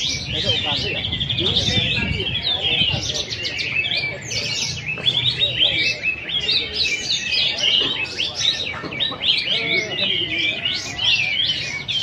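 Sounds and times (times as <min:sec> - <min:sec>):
songbirds chorus: 0:00.0 - 0:12.0.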